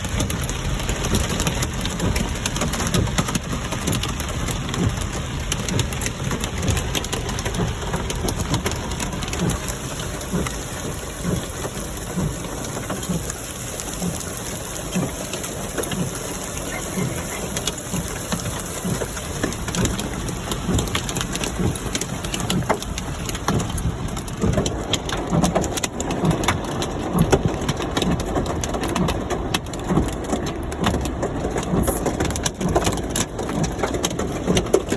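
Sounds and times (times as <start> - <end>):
hail and rain clattering: 0.0 - 34.9.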